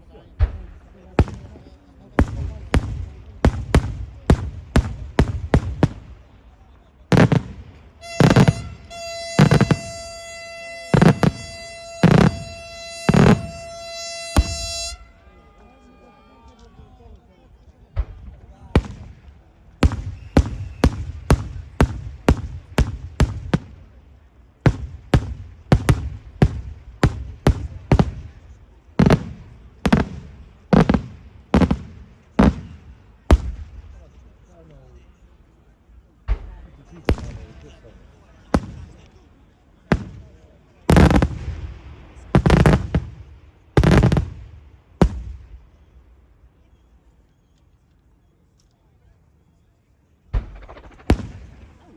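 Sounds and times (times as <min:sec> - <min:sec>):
fireworks bangs with echo: 0:00.2 - 0:15.1, 0:17.9 - 0:34.3, 0:36.2 - 0:39.2, 0:39.8 - 0:46.2, 0:50.3 - 0:51.9.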